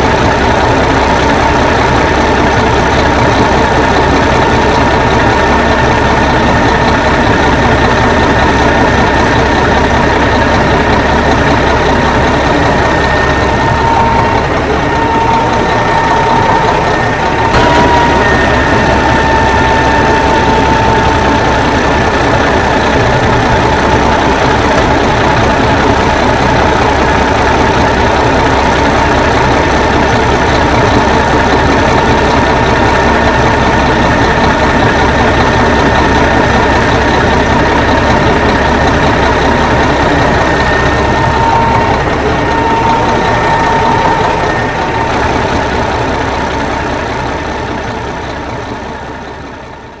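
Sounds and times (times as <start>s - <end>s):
truck engine idling: 0.0s - 50.0s.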